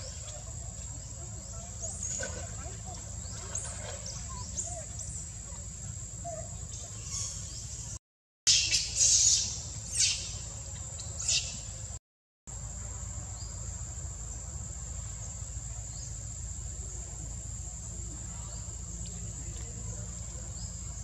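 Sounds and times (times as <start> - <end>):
insects droning: 0.0 - 21.0
shrill insect calls: 0.0 - 21.0.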